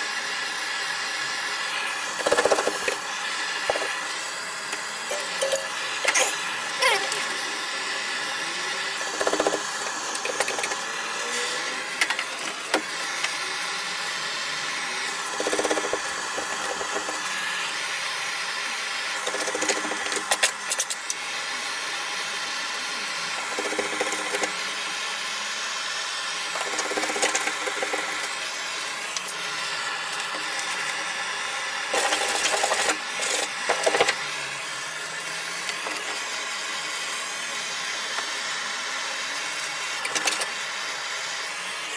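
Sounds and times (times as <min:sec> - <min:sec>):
blowtorch hissing: 0:00.0 - 0:41.9.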